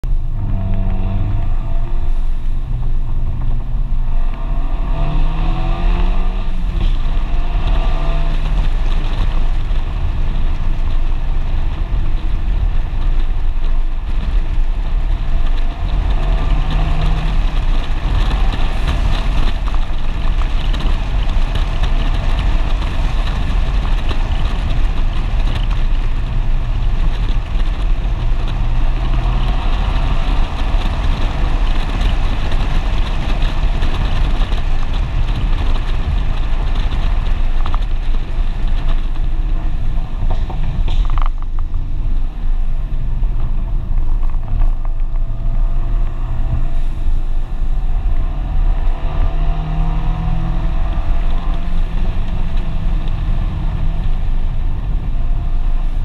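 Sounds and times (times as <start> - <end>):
car engine running under load: 0.0 - 56.0
wind and road noise: 0.0 - 56.0.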